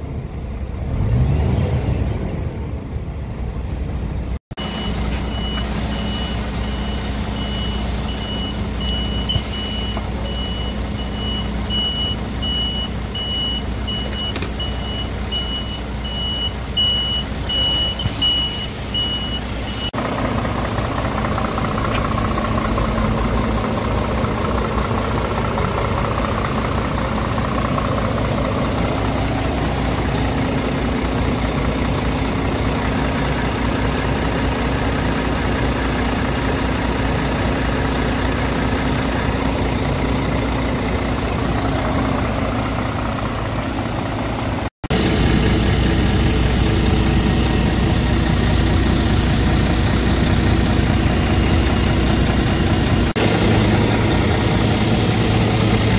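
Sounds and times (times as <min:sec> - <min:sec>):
diesel engine idling: 0:00.0 - 0:01.4, 0:02.2 - 0:55.9.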